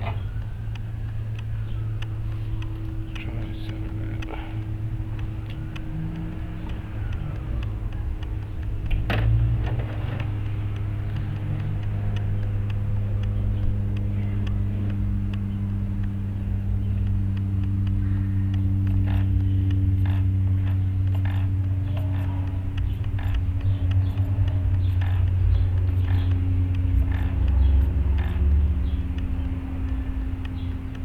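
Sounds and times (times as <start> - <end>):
faint ticks: 0.0 - 31.0
rc helicopter rotor hum: 0.0 - 31.0.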